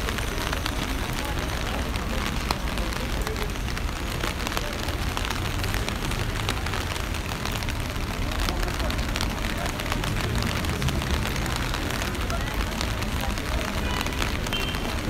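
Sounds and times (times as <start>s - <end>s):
low street rumble: 0.0s - 15.0s
rain patter on street: 0.0s - 15.0s.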